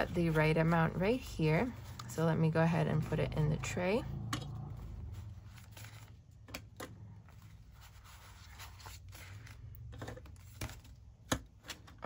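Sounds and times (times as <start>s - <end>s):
paper banknotes rustling: 0.0s - 3.6s, 4.5s - 11.9s.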